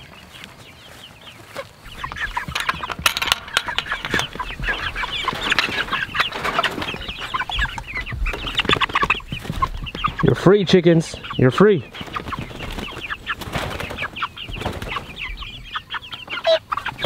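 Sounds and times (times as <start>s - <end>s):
chickens clucking and peeping: 0.0s - 17.0s.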